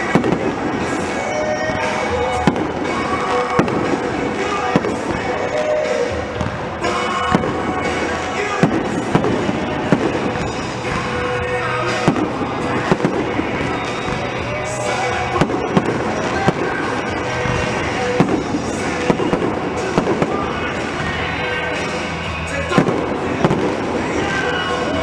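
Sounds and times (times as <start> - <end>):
fireworks bangs: 0.0 - 25.0
music playing: 0.0 - 25.0.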